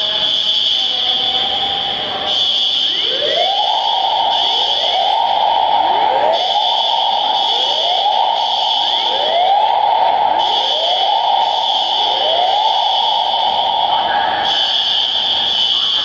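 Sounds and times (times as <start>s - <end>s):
piercing high alarm tone: 0.0s - 16.0s
rising alarm whoop: 0.0s - 16.0s.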